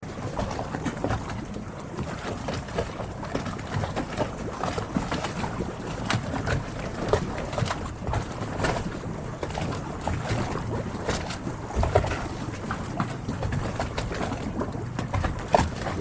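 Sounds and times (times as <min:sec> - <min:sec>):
water lapping against boats: 0:00.0 - 0:16.0.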